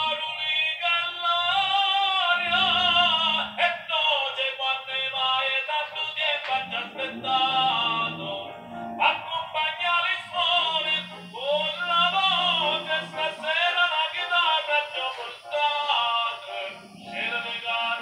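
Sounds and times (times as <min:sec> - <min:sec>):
musical accompaniment: 0:00.0 - 0:18.0
person singing operatically: 0:00.0 - 0:18.0.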